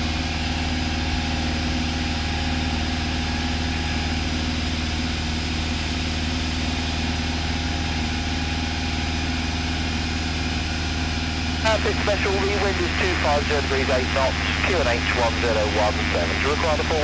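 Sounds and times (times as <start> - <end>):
piston aircraft engine idling: 0.0 - 17.0.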